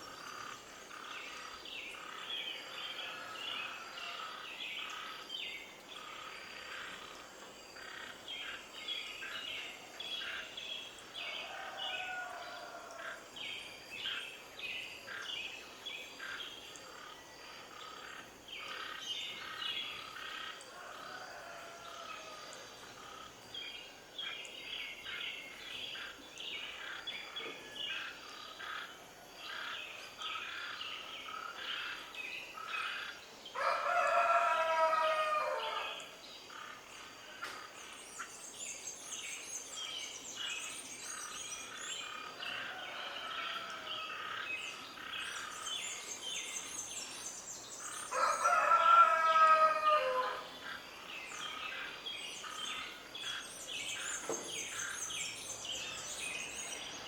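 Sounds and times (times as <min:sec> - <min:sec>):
small birds chirping: 0:00.0 - 0:57.0
long loud bird calls: 0:07.8 - 0:15.3, 0:16.1 - 0:57.0.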